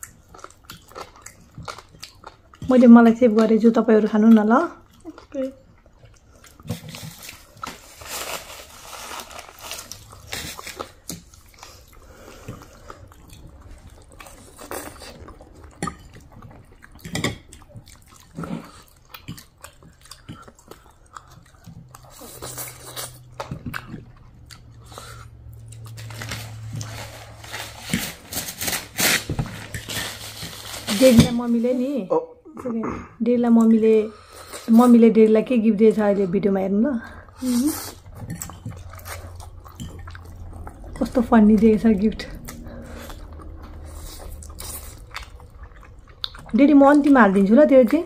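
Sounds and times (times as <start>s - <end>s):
chewing and crunching: 0.0s - 31.7s, 33.5s - 48.0s
low steady hum: 0.0s - 48.0s.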